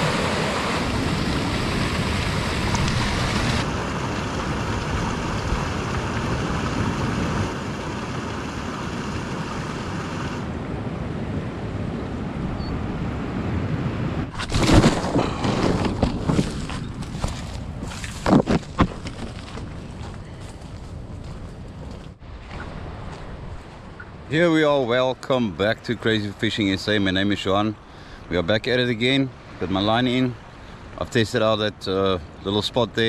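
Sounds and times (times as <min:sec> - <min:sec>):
ocean surf washing: 0:00.0 - 0:18.3, 0:21.8 - 0:33.0
wind: 0:00.0 - 0:33.0.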